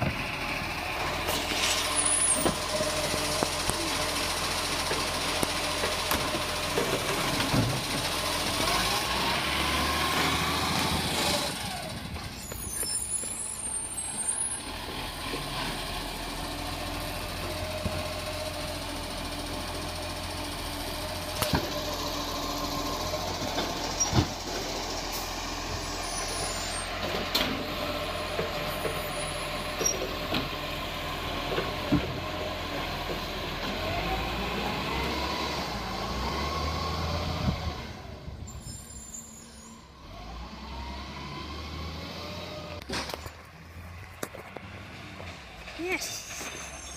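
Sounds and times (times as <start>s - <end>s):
garbage truck engine running: 0.0s - 38.8s.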